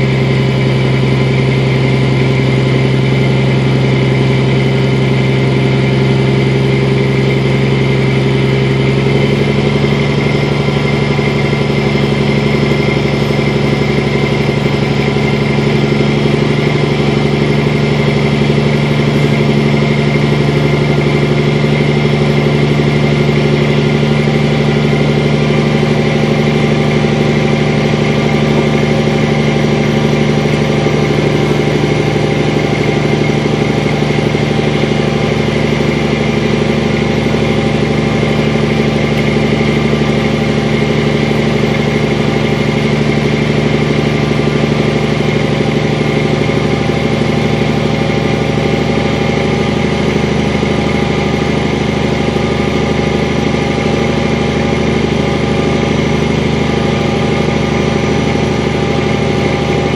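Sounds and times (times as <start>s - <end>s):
truck engine drone: 0.0s - 59.9s.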